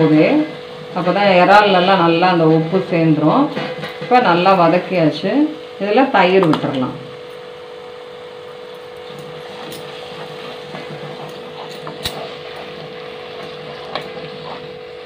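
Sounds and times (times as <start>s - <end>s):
prawn masala sizzling: 0.0s - 15.0s
steady hum: 0.0s - 15.0s.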